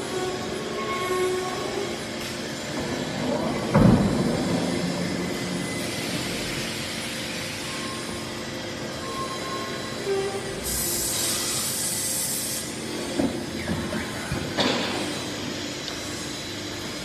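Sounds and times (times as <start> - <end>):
factory machinery running: 0.0 - 17.0.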